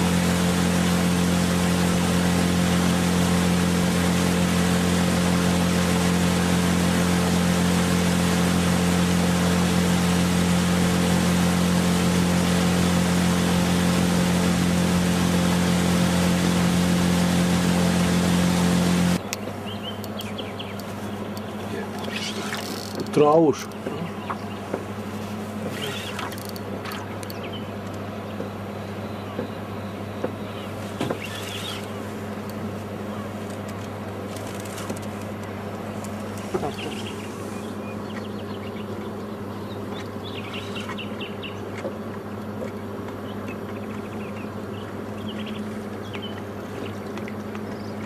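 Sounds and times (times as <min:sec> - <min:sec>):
low motor-like hum: 0:00.0 - 0:48.0.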